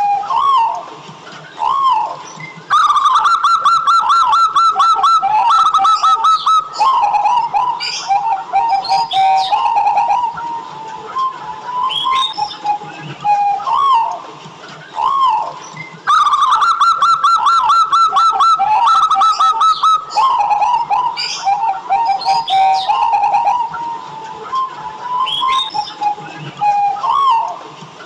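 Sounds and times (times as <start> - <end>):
dove cooing: 1.6 - 14.2, 14.9 - 27.6.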